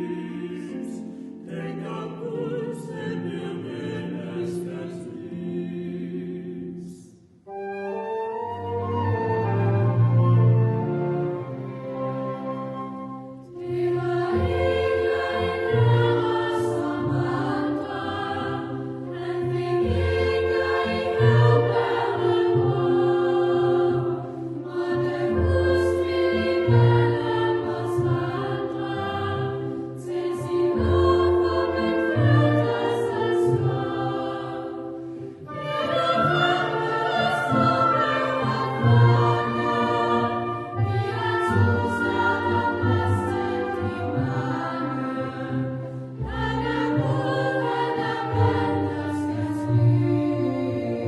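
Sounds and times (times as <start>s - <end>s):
choir singing a carol: 0.0s - 51.0s
chamber orchestra playing: 7.5s - 51.0s.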